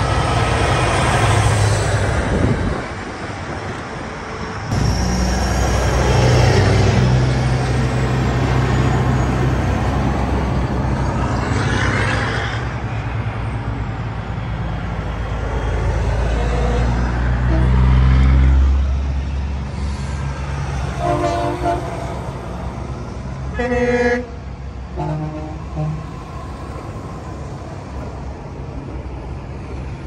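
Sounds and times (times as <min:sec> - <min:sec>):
trucks rolling past: 0:00.0 - 0:30.0.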